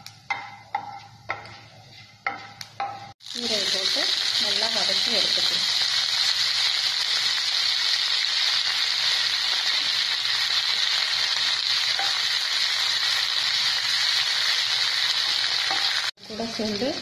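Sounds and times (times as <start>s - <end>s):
leaves sizzling in hot oil: 3.2s - 17.0s.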